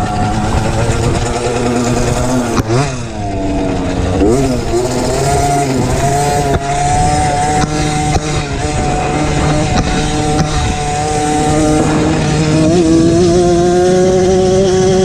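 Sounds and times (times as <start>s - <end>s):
dirt bike engine at high revs: 0.0s - 15.0s.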